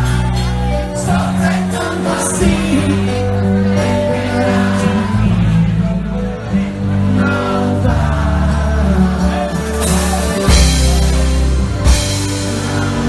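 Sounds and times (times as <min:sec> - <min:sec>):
live band playing amplified music: 0:00.0 - 0:13.0.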